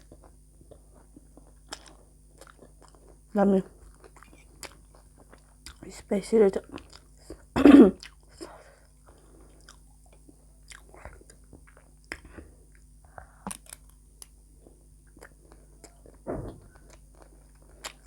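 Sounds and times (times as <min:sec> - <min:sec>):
person chewing crunchy snack: 0:00.0 - 0:05.8, 0:06.7 - 0:18.0.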